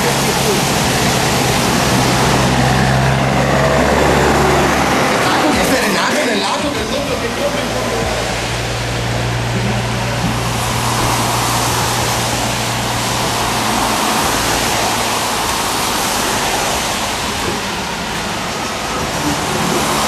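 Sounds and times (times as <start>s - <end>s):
low engine hum: 0.0s - 20.0s
rain and tyres on wet road: 0.0s - 20.0s.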